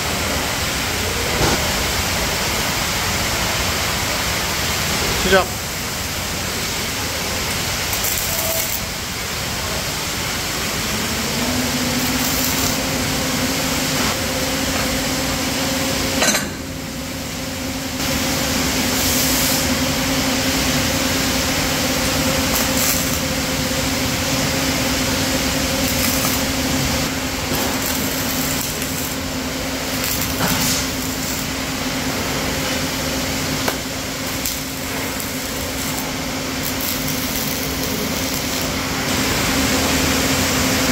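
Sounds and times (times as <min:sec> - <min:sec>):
welding arc hissing and crackling: 0:00.0 - 0:16.2, 0:16.9 - 0:40.9.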